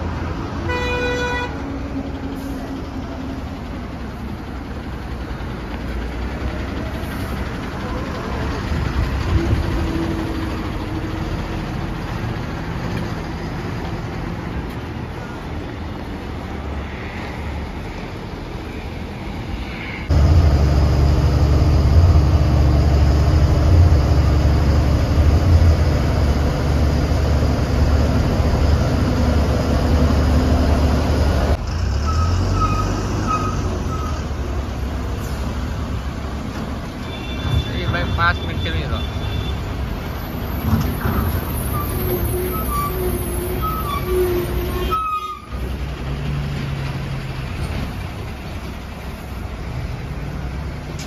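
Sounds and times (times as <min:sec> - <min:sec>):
low drone inside moving bus: 0:00.0 - 0:37.6, 0:39.7 - 0:51.0
bus engine rumble: 0:00.0 - 0:51.0
traffic noise: 0:00.0 - 0:51.0.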